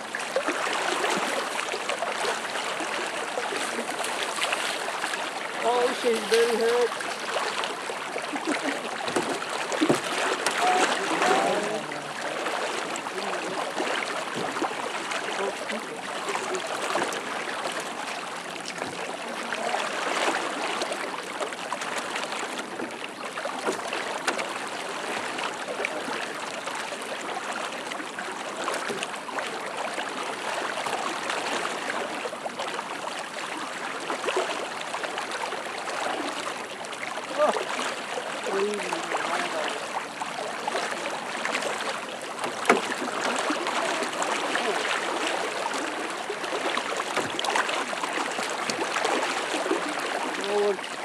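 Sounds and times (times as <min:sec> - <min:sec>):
floodwater rushing in river: 0:00.0 - 0:51.0.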